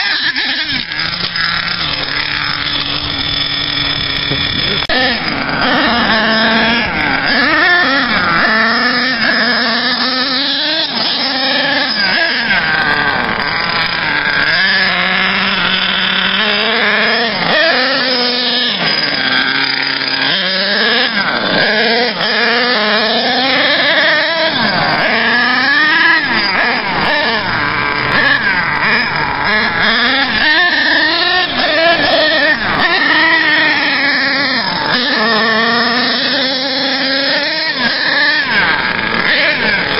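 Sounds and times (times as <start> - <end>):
model truck engine revving: 0.0 - 39.9.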